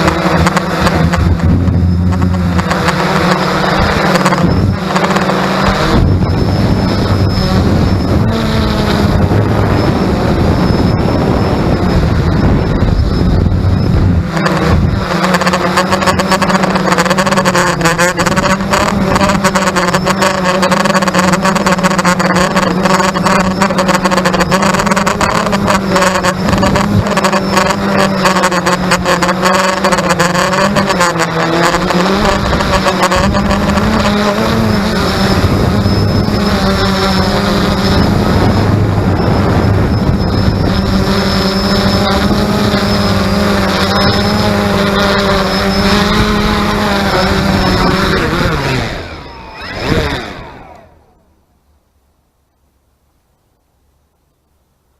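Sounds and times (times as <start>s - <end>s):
fast crackling rattle: 0.0s - 50.9s
drone motors humming: 0.0s - 51.9s.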